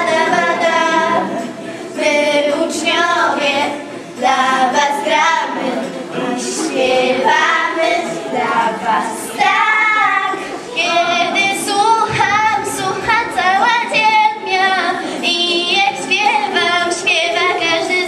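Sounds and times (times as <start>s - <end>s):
girls singing into microphones: 0.0s - 18.0s.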